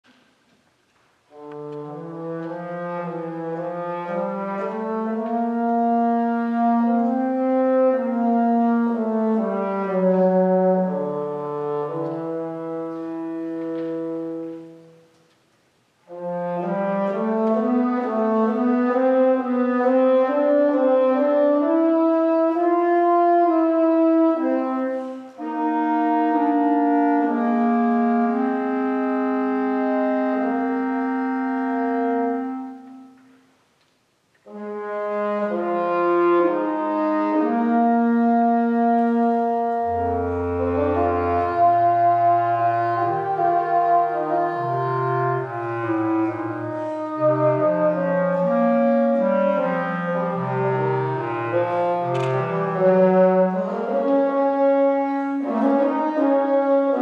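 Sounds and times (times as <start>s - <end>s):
bass clarinet: 1.2s - 15.1s, 16.0s - 33.3s, 34.4s - 57.0s
bassoon: 1.2s - 15.3s, 16.0s - 33.5s, 34.4s - 57.0s.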